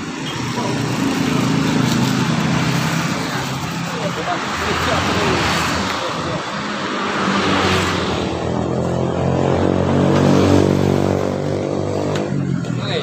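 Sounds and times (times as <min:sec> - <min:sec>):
vehicle passing by: 0:00.7 - 0:12.2.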